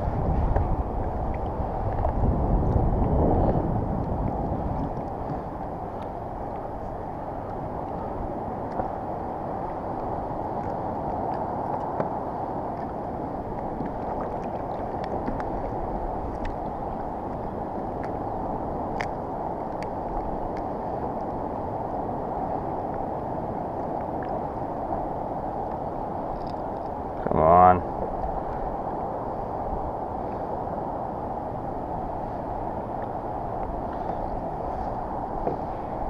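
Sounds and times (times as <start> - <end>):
water sloshing against hull: 0.0 - 36.0
wind buffeting microphone: 0.0 - 36.0.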